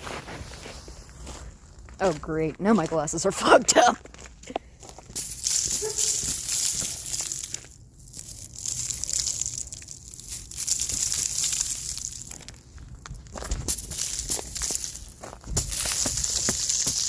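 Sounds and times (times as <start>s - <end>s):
ice crunching and crackling: 0.0s - 17.0s.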